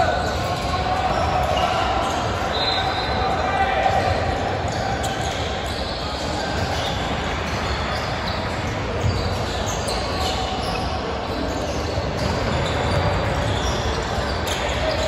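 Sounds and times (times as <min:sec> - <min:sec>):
echoing gymnasium hubbub: 0:00.0 - 0:15.0
sneaker squeaks: 0:00.0 - 0:15.0.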